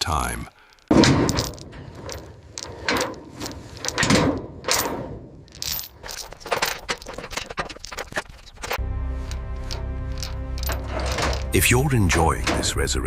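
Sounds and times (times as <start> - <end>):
rusty metal creaking and clanking: 0.1 - 13.0
heavy thuds: 0.8 - 8.8, 9.7 - 13.0.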